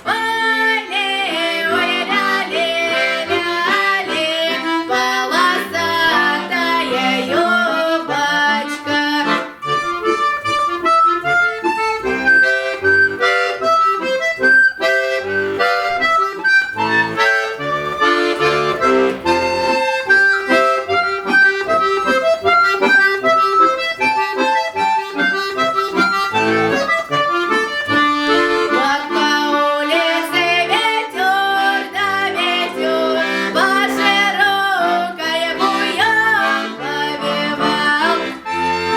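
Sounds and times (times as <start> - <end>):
accordion playing folk tune: 0.0 - 38.9.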